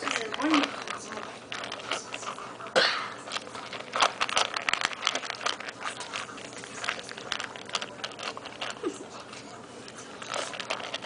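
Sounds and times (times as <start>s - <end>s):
puppy crunching kibble in metal bowl: 0.0s - 11.0s.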